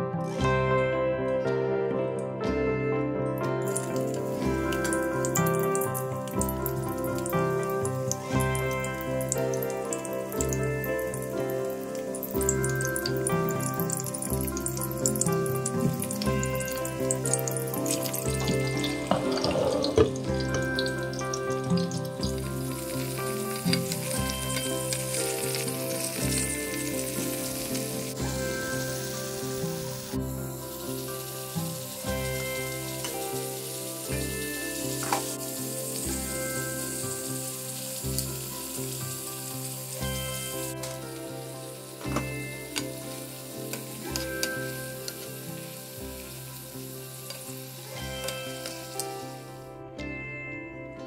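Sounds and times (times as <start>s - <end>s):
background music of held chords: 0.0s - 51.0s
food sizzling in frying oil: 3.6s - 49.7s.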